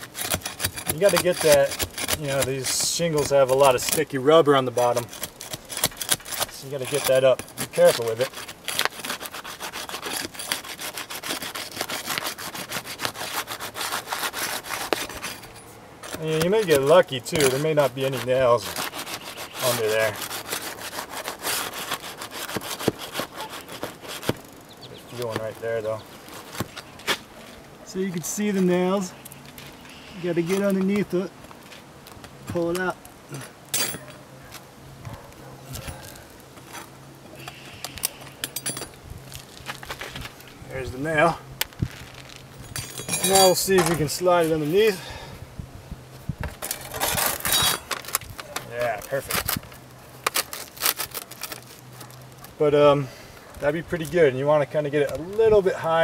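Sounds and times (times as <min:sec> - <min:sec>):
metal bar scraping under shingles: 0:00.0 - 0:45.3, 0:46.1 - 0:56.0.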